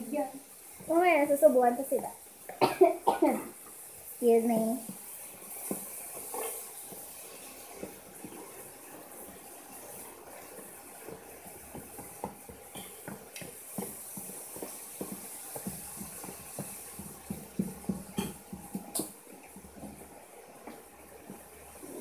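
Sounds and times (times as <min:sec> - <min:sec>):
carrots sizzling: 0:00.0 - 0:22.0.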